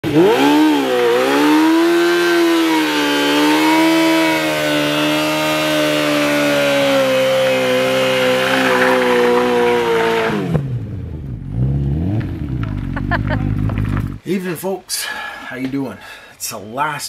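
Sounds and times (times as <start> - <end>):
motorcycle engine revving: 0.0 - 14.2
rear tyre spinning: 0.0 - 14.2.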